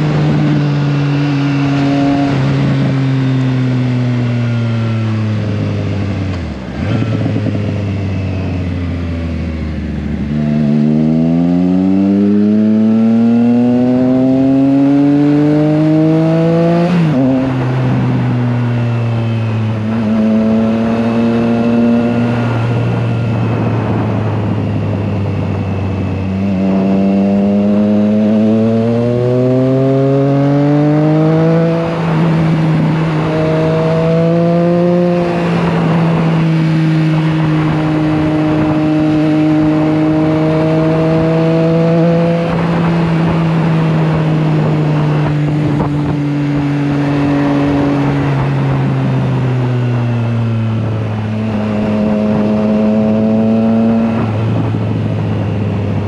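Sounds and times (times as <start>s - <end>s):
motorcycle engine running: 0.0s - 56.0s
wind rushing: 10.2s - 56.0s.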